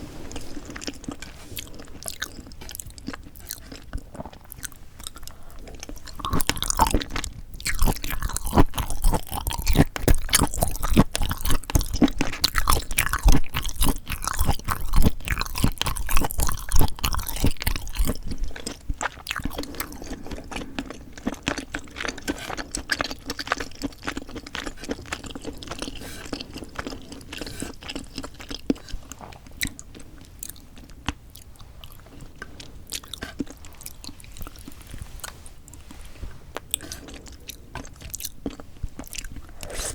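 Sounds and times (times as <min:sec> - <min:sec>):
wet crunchy chewing: 0:00.0 - 0:39.9.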